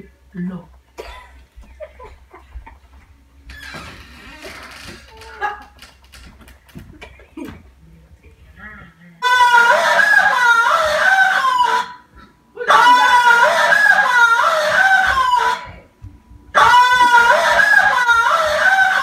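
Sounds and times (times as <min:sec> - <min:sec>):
warbling recorded call: 0:03.2 - 0:19.0.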